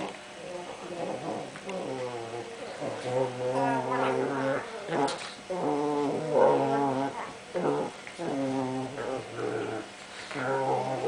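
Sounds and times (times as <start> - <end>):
dogs growling: 0.0 - 11.0.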